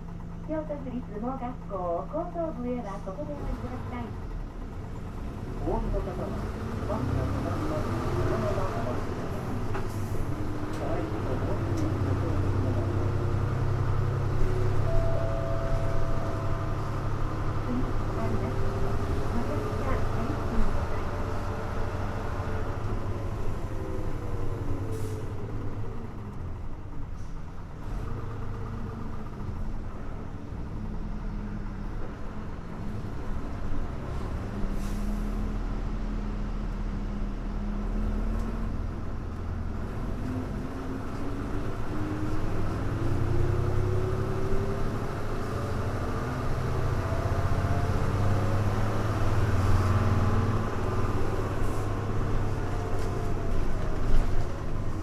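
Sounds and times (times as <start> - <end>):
bus engine: 0.0 - 55.0.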